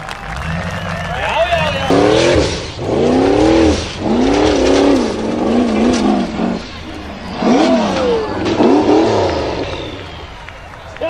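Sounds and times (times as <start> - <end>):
buggy engine revving hard: 0.1 - 10.5.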